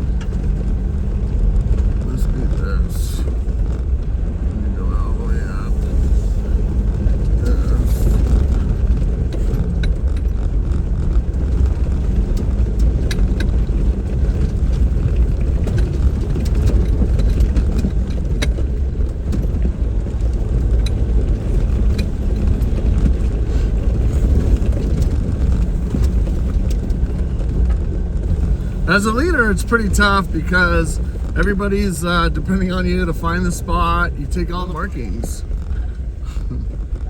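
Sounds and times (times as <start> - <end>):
vehicle engine drone: 0.0 - 37.0
clicks and knocks from rough ground: 5.8 - 37.0.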